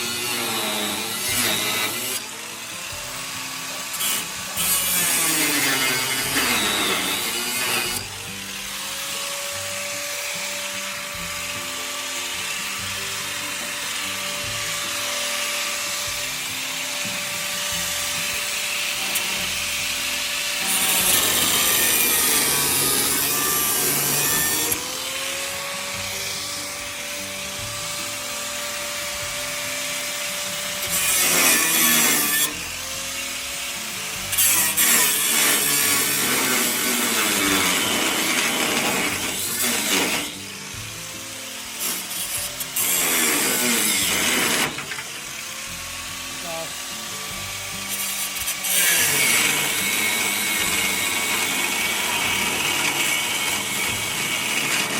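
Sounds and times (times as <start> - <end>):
power tool motor whining: 0.0 - 54.9.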